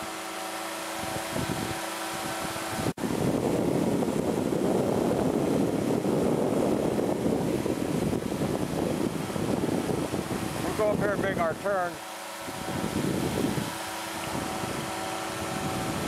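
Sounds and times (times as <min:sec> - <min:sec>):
engine and propeller running: 0:00.0 - 0:16.0
wind rushing over microphone: 0:00.0 - 0:16.0.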